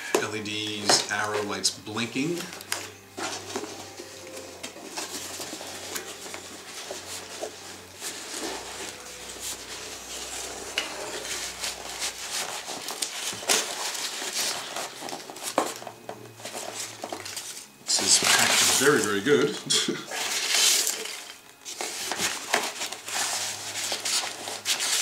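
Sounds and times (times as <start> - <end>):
cardboard crackling and knocking: 2.1 - 19.0, 20.2 - 25.0.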